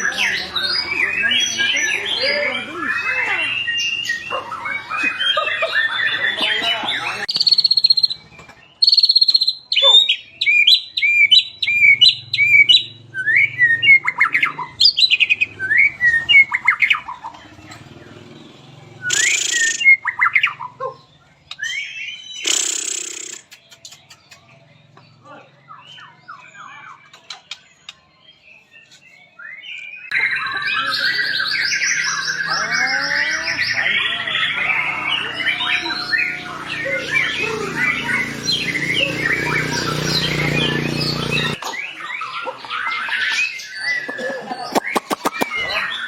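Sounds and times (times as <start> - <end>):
bird chattering run: 0.0 - 12.8, 19.0 - 46.0
songbird whistling: 0.0 - 17.3, 19.0 - 24.5, 29.4 - 46.0
bird harsh notes: 0.0 - 17.6, 19.0 - 27.9, 29.5 - 46.0.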